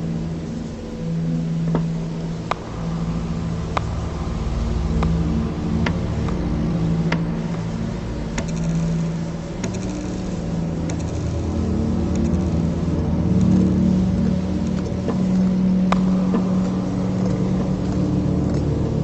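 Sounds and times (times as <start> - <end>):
dark low rumbling drone: 0.0 - 19.0.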